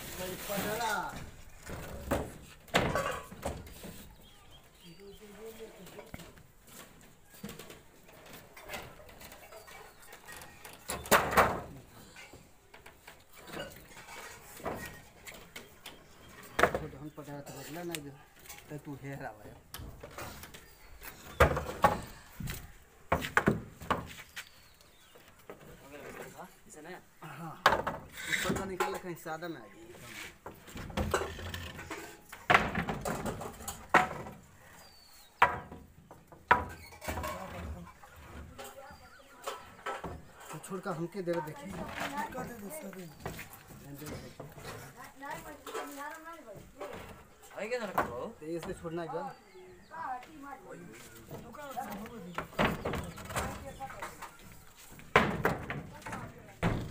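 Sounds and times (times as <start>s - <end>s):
wooden planks scraping and knocking: 0.0s - 26.8s, 27.6s - 49.1s, 50.2s - 56.9s.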